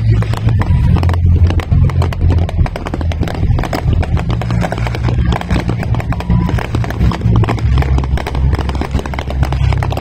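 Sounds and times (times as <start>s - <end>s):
fireworks cracking: 0.0s - 10.0s
low rumble: 0.0s - 10.0s.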